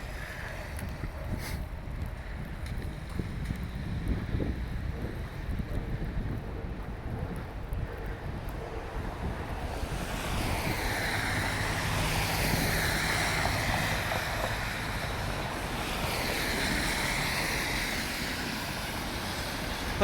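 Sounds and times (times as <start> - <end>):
traffic passing: 0.0 - 20.0
wind on microphone: 0.0 - 20.0.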